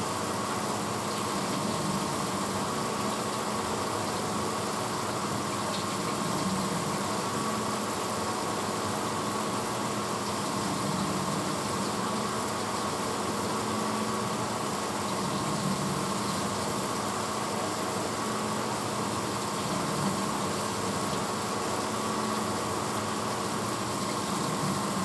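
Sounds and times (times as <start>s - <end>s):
dishwasher motor hum: 0.0s - 25.0s
dishwasher rushing water: 0.0s - 25.0s.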